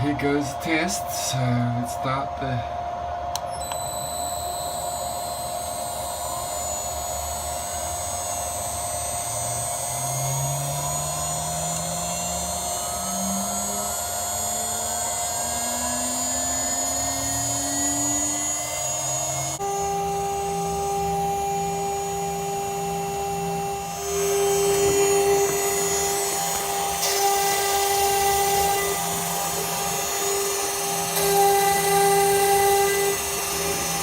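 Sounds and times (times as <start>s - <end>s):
motor whine: 0.0s - 34.0s
rising stepper motor tone: 0.0s - 34.0s.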